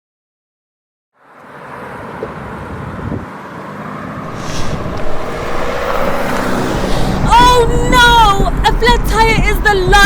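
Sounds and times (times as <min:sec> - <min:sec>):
car engine and road noise: 0:01.1 - 0:10.0.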